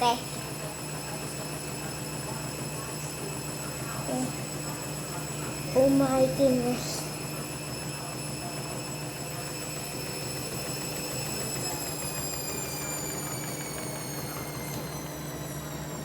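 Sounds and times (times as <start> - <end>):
high motor whine: 0.0 - 16.0
washing machine drum spinning: 0.0 - 16.0.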